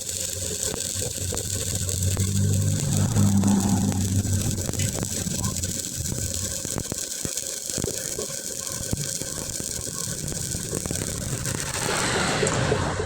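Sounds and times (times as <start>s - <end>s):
arc welding crackling hiss: 0.0s - 13.0s.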